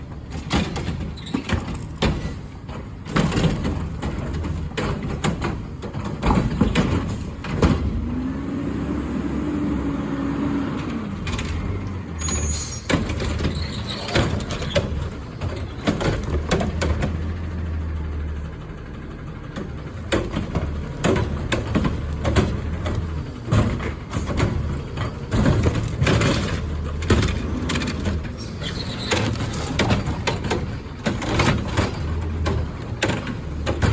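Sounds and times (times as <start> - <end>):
garbage truck engine running: 0.0 - 33.9
clanks and bangs: 0.3 - 8.1, 11.2 - 17.4, 19.5 - 33.9.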